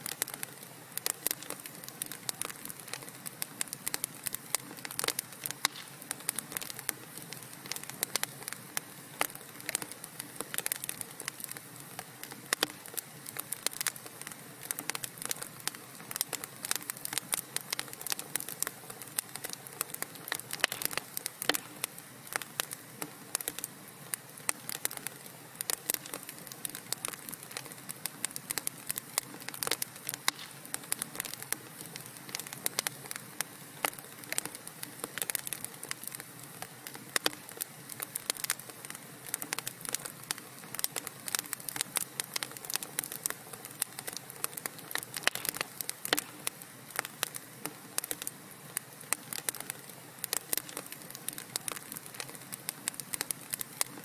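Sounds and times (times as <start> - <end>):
fire popping and snapping: 0.0 - 54.0
wood fire crackling: 0.0 - 54.0.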